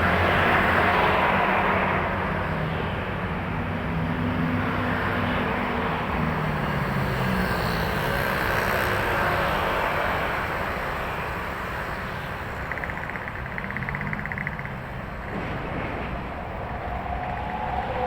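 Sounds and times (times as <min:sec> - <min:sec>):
highway traffic passing: 0:00.0 - 0:18.0.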